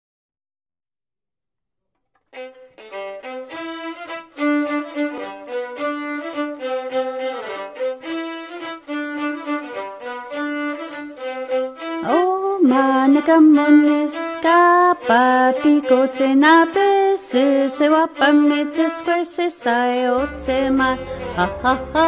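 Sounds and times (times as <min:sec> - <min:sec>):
violin melody: 0:02.2 - 0:22.0.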